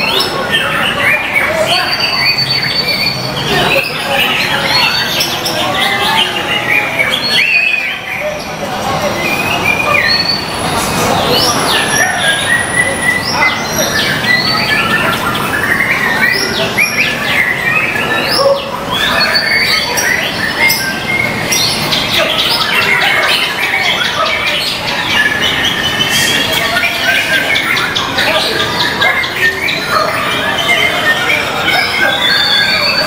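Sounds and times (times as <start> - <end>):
bird singing whistles and chatter: 0.0 - 33.0
steady background noise: 0.0 - 33.0.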